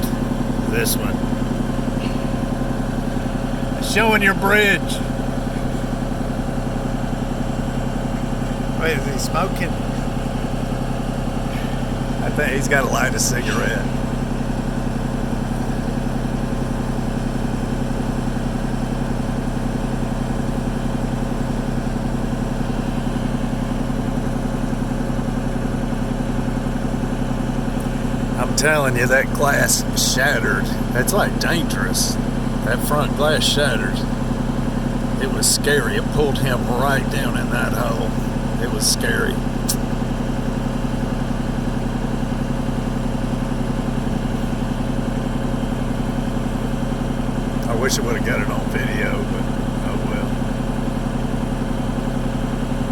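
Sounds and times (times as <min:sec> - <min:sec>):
machine engine idling: 0:00.0 - 0:52.9.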